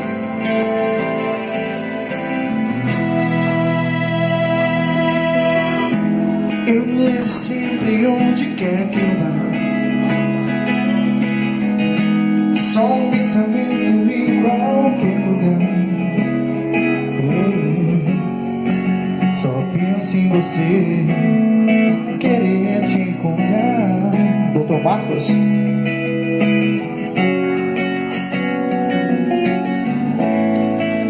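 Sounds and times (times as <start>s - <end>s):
band playing instrumental: 0.0s - 31.0s
guitar: 0.0s - 31.0s.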